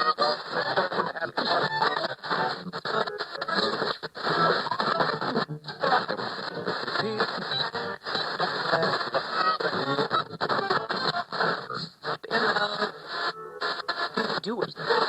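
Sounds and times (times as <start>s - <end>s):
radio static and hiss: 0.0s - 15.0s.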